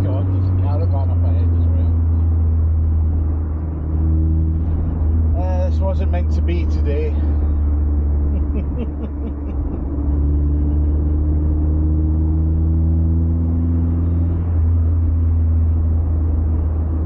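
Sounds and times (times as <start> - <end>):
car engine pulling: 0.0 - 17.0
low road rumble: 0.0 - 17.0.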